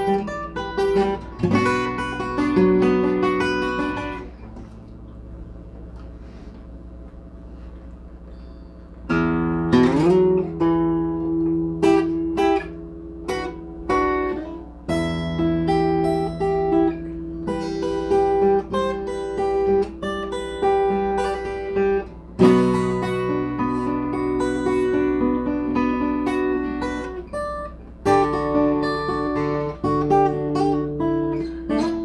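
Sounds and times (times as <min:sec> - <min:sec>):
guitar chords and notes: 0:00.0 - 0:06.8, 0:07.5 - 0:32.0
low steady hum: 0:00.0 - 0:32.0.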